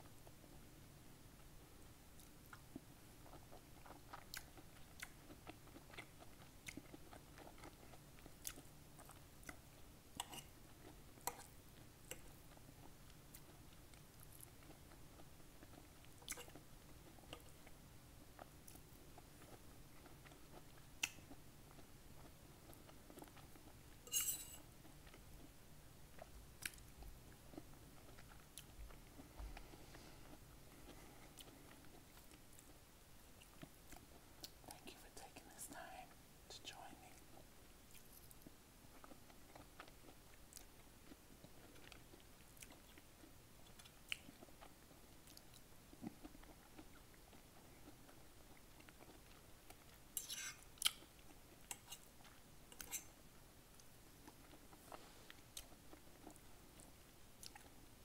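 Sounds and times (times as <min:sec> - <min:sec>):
wet chewing sounds: 0:02.2 - 0:24.1, 0:24.8 - 0:34.8, 0:37.1 - 0:57.9.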